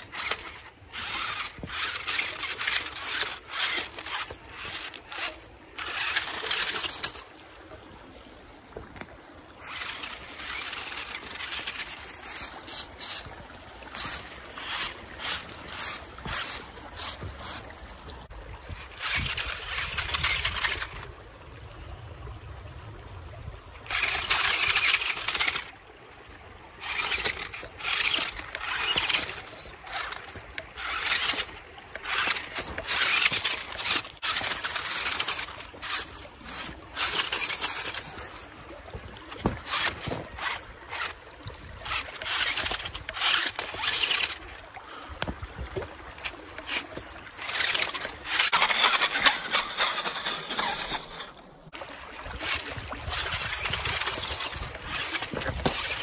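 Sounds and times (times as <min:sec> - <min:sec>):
toy car motor whirring: 0:00.0 - 0:07.3, 0:09.6 - 0:17.8, 0:18.7 - 0:21.1, 0:23.9 - 0:25.7, 0:26.8 - 0:38.5, 0:39.3 - 0:41.2, 0:41.8 - 0:44.6, 0:46.2 - 0:51.4, 0:52.3 - 0:56.0
tyres scrabbling on stone: 0:00.0 - 0:07.4, 0:08.8 - 0:21.1, 0:23.9 - 0:25.7, 0:26.8 - 0:51.5, 0:52.3 - 0:56.0.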